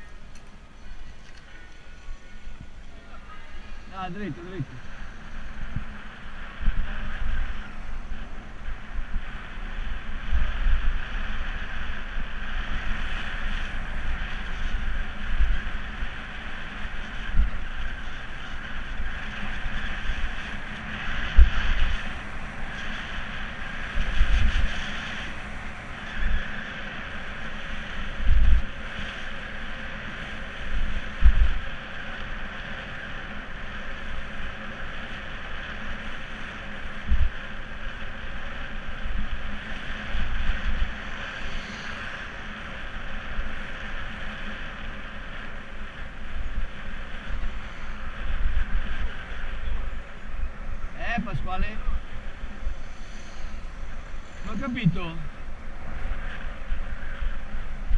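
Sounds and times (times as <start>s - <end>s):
low wind buffeting gusts: 0.0s - 57.9s
wind hiss on microphone: 0.0s - 57.9s.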